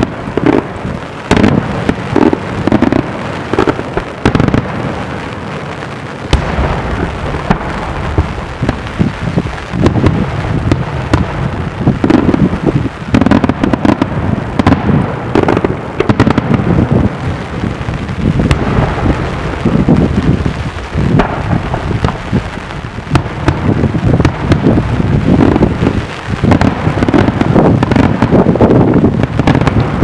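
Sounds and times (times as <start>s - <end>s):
fireworks booms: 0.0s - 30.0s
fireworks sharp cracks: 0.0s - 30.0s.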